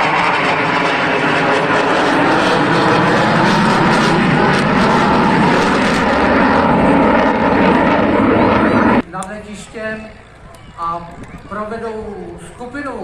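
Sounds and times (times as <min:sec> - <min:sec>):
propeller airplane engine running: 0:00.0 - 0:13.0.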